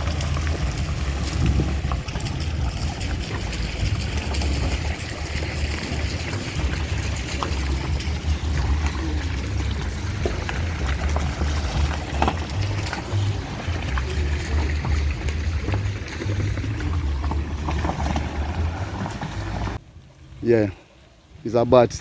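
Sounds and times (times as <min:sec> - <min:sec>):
knocks and rattles: 0:00.0 - 0:19.8
vehicle engine and road rumble: 0:00.0 - 0:21.8.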